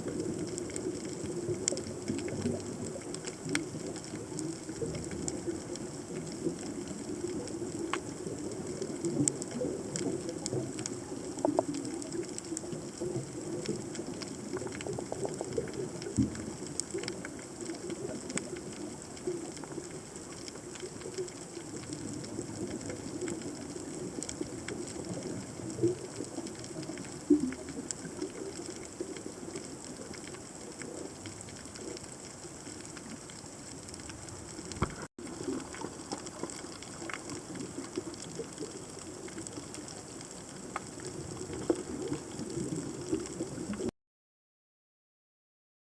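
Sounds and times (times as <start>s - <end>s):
sharp underwater clicks and crackles: 0.0s - 43.9s
underwater wash of moving water: 0.0s - 43.9s.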